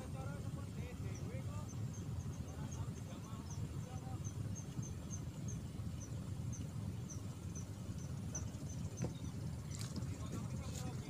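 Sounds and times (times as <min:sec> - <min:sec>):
low outdoor rumble: 0:00.0 - 0:11.0
high-pitched bird or insect chirp: 0:00.8 - 0:11.0.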